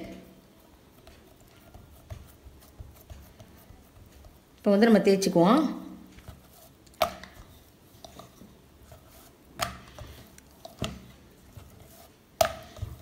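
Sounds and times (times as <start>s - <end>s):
rolling pin on wooden board: 0.8s - 4.6s, 6.1s - 13.0s.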